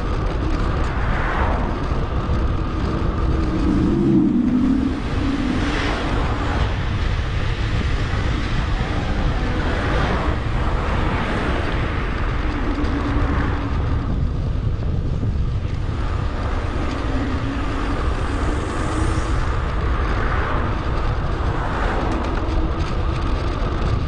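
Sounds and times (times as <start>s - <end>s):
road traffic passing: 0.0s - 24.0s
wind buffeting microphone: 0.0s - 24.0s.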